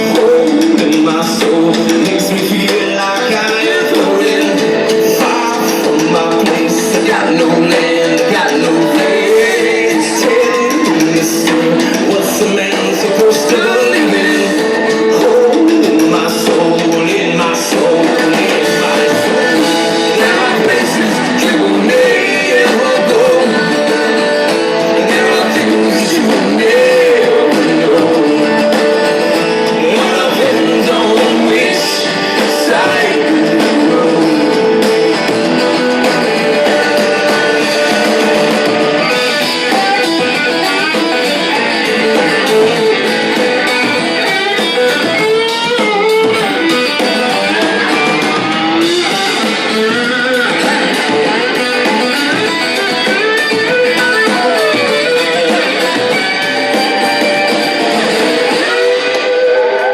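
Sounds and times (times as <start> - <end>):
guitar sliding and bending notes: 0.0 - 59.9
live rock band playing: 0.0 - 59.9.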